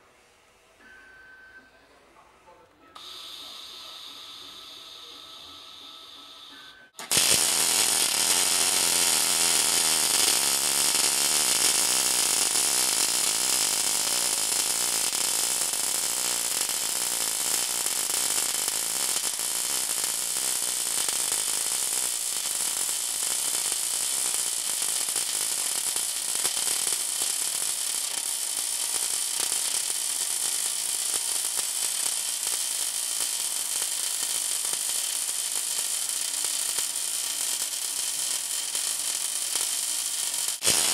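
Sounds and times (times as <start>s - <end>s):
welding arc buzzing crackle: 7.0s - 40.9s.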